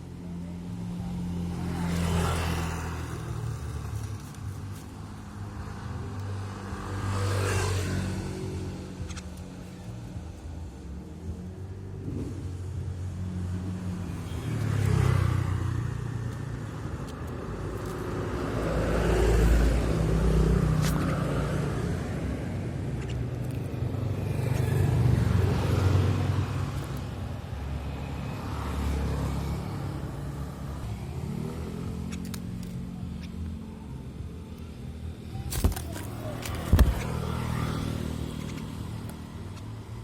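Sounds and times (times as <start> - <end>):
road vehicles passing: 0.0 - 40.0.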